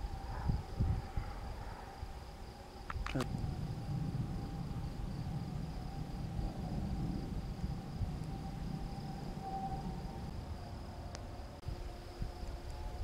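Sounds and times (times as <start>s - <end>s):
crickets chirring: 0.0s - 13.0s
distant siren: 0.0s - 13.0s
low rumbling noise: 0.0s - 13.0s.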